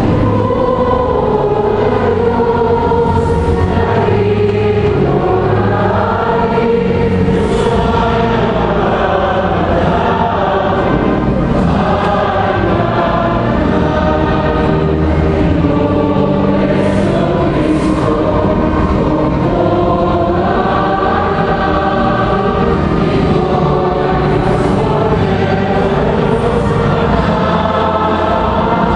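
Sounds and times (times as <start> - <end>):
church choir singing: 0.0 - 28.9.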